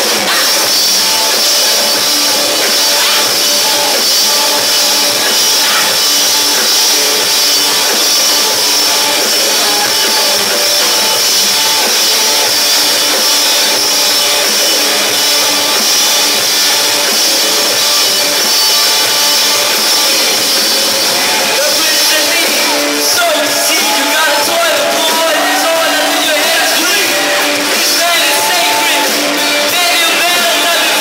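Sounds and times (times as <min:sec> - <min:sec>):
rock band playing live: 0:00.0 - 0:31.0.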